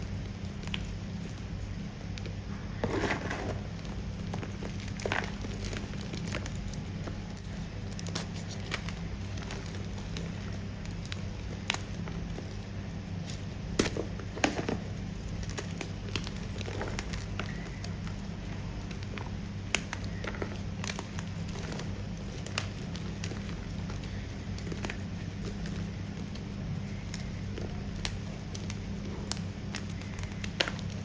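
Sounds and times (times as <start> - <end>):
steady low hum: 0.0 - 31.0
chalk crunching while chewed: 4.0 - 31.0.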